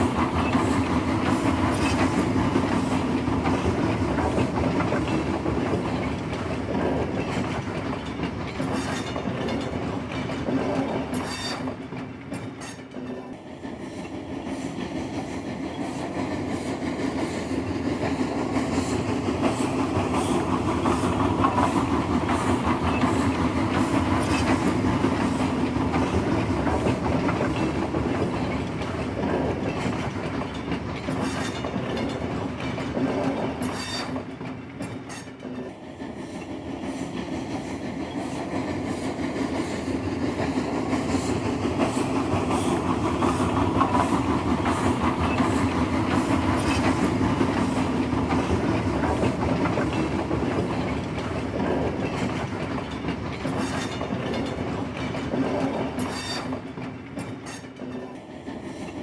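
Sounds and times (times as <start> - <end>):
train rumble: 0.0 - 59.0
train wheels clicking on rail joints: 0.0 - 59.0.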